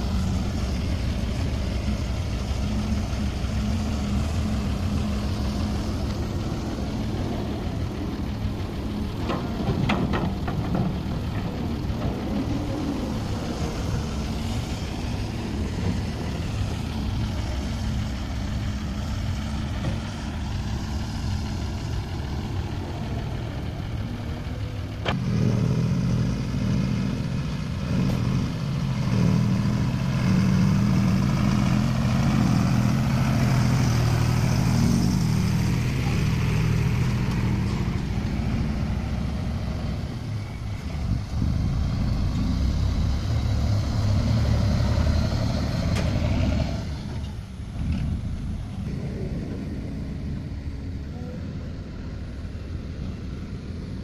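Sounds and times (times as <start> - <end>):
truck diesel engine pulling away: 0.0 - 54.0.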